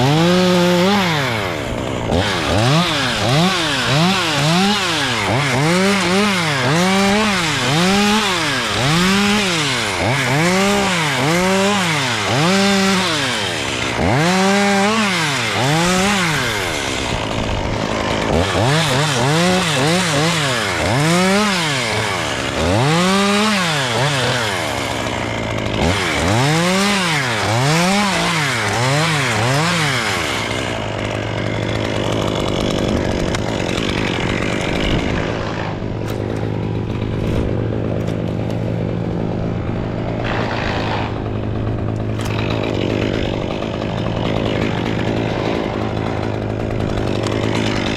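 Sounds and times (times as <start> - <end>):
chainsaw revving and idling: 0.0 - 47.9.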